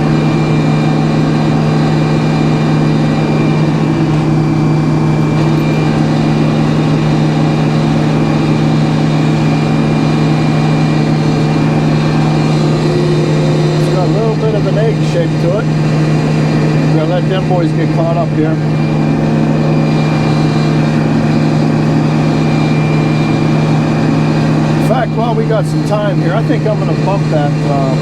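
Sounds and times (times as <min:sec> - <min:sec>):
sawmill engine droning: 0:00.0 - 0:28.0.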